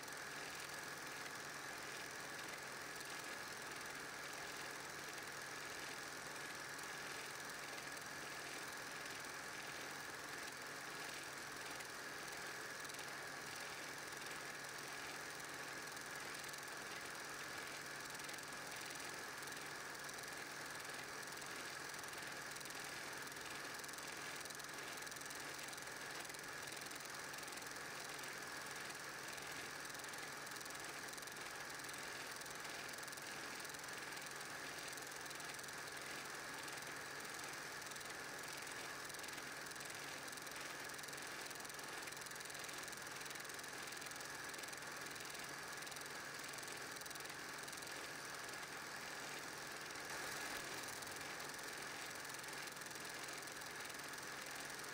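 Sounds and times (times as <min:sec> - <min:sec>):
film projector whirring and clattering: 0:00.0 - 0:54.9.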